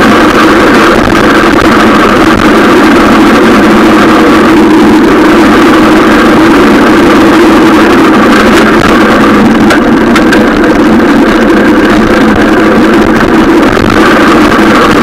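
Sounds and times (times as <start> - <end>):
wind and tyre rush: 0.0 - 15.0.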